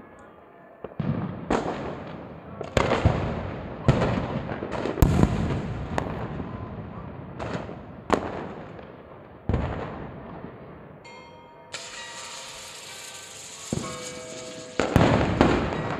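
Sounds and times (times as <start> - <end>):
fireworks exploding with echo: 0.8 - 15.9.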